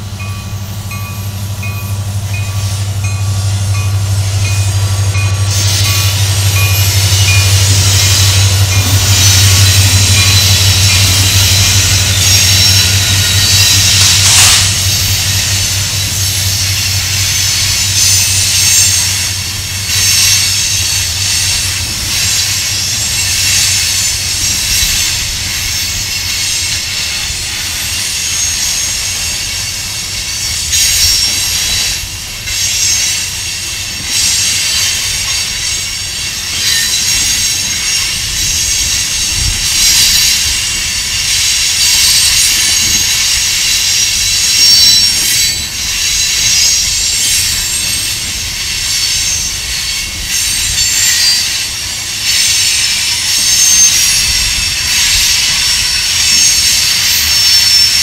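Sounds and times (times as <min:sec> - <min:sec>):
train rumble: 0:00.0 - 0:58.0
train wheels squealing: 0:00.0 - 0:58.0.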